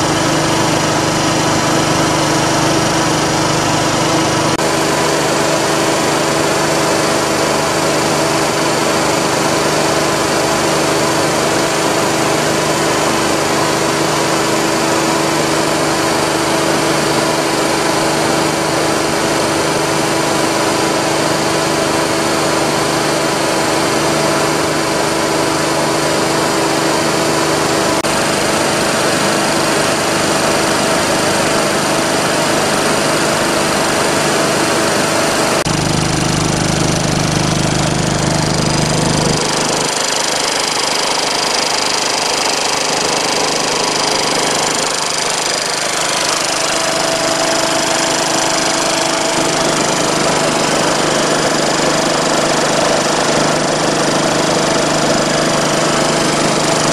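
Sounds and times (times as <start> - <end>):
air compressor running: 0.0 - 56.9.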